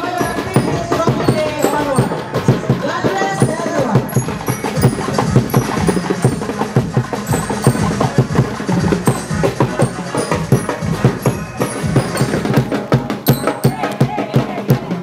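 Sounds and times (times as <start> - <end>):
drums in fast rhythm: 0.0 - 15.0
ringing percussion tones: 0.0 - 15.0.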